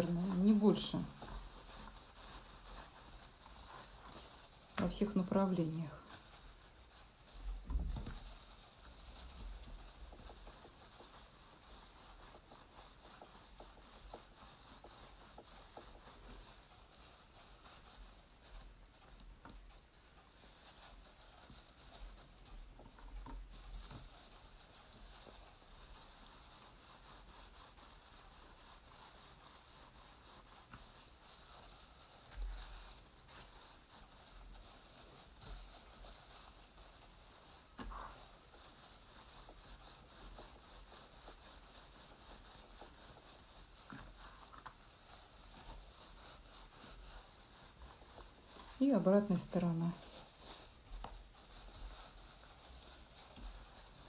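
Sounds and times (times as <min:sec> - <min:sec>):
rubbing and rustling of felting roll: 0:00.0 - 0:54.0.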